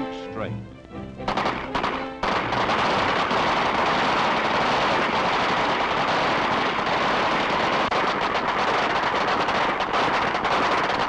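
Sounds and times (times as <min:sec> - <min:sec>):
rapid gunfire: 0:01.3 - 0:11.0.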